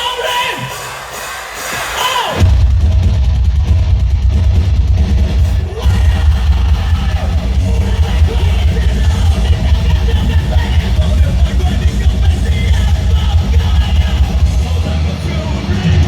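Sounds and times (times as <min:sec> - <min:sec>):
heavy rock band playing: 0:00.0 - 0:16.0
pounding bass and drums: 0:00.0 - 0:16.0.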